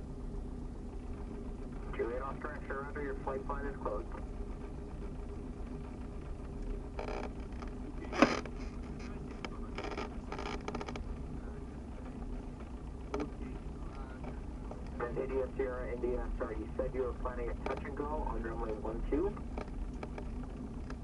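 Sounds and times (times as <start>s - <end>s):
plane engine idling: 0.0s - 21.0s.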